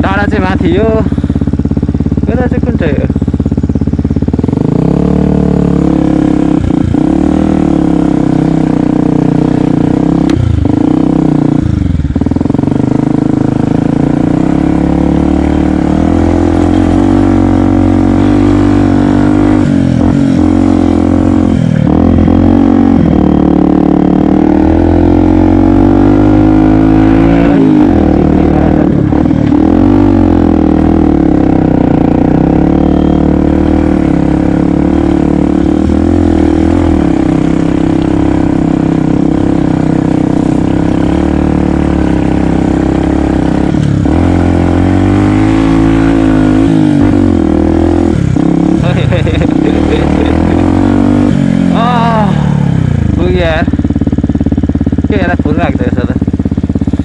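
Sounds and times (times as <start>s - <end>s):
motorcycle engine pulling: 0.0s - 57.0s.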